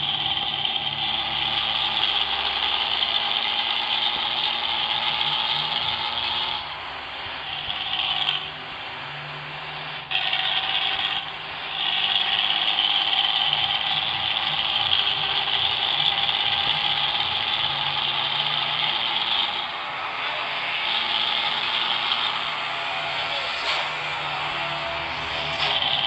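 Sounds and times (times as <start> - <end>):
bus engine running: 0.0 - 26.0.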